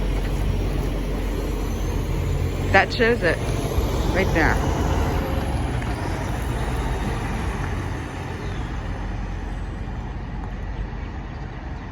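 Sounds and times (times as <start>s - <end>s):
truck engine rumbling: 0.0s - 11.9s.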